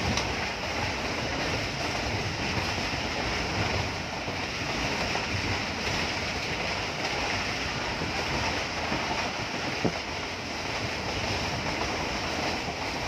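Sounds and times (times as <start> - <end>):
train wheels rumbling on rails: 0.0 - 13.0
wind rush: 0.0 - 13.0.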